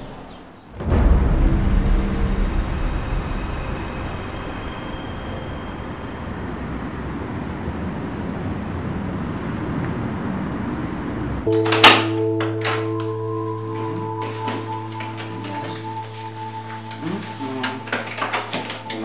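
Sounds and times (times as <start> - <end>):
city traffic noise: 0.0 - 0.9, 1.5 - 19.0.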